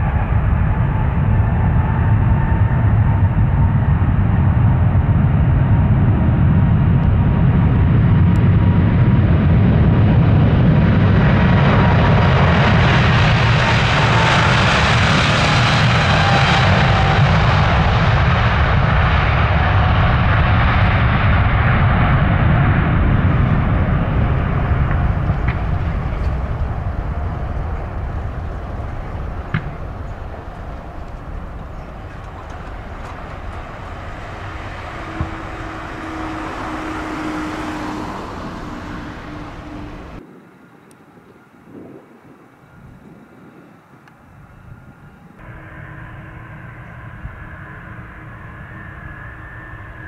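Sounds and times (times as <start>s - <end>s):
jet engines roaring: 0.0s - 50.0s.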